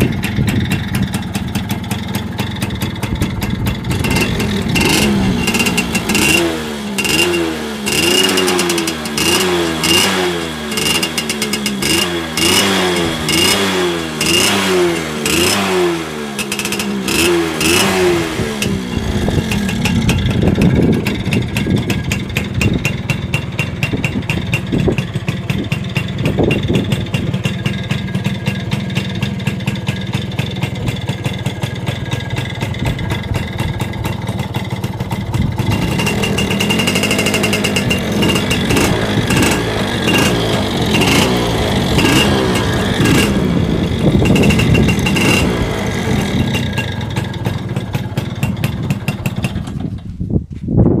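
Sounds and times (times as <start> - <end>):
motorcycle engine idling and revving: 0.0 - 51.0.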